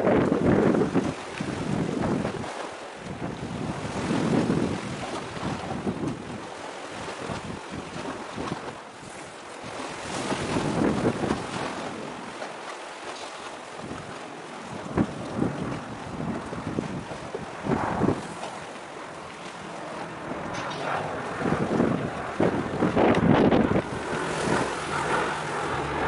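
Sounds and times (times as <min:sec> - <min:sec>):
rush of wind and sea: 0:00.0 - 0:26.0
wind buffeting microphone: 0:00.0 - 0:26.0.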